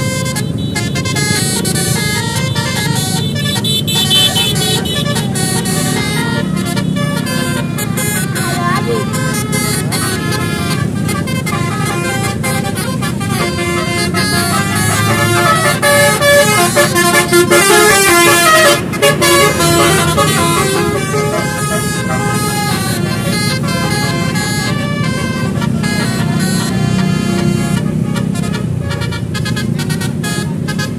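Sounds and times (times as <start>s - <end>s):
multi-tone vehicle horn tune: 0.0s - 30.9s
vehicle engine noise: 0.0s - 30.9s.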